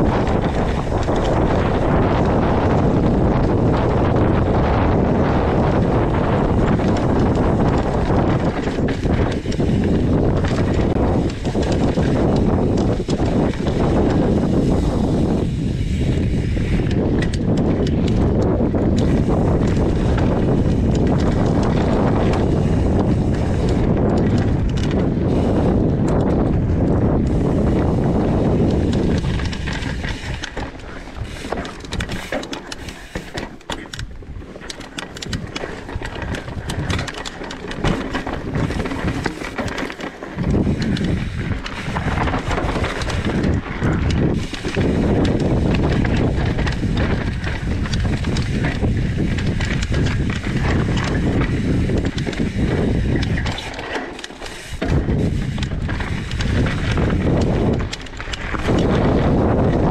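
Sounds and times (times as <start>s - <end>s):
bike clattering over rocks: 0.0s - 59.9s
tyre noise on dirt: 0.0s - 59.9s
wind on microphone: 0.0s - 59.9s.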